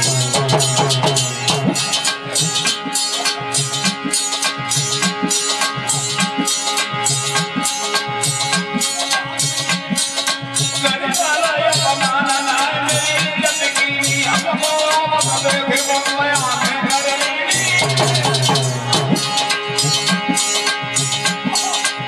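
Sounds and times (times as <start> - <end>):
hand drum: 0.0 - 22.0
harmonium holding notes: 0.0 - 22.0
shaker-like percussion: 0.0 - 22.0.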